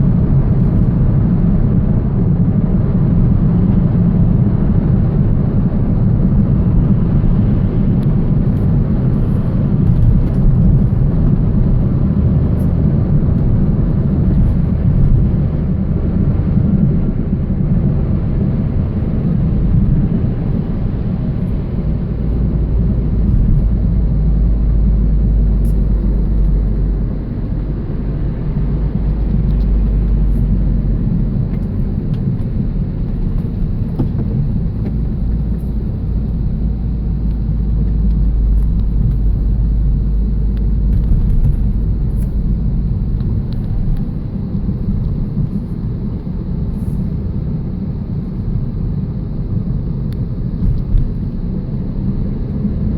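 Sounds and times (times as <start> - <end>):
car driving rumble and drone: 0.0 - 52.9
deep wheel hum: 0.0 - 52.9.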